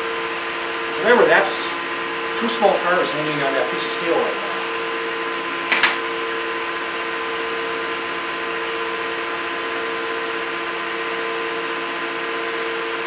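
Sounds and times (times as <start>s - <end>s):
testing machine humming: 0.0s - 11.6s.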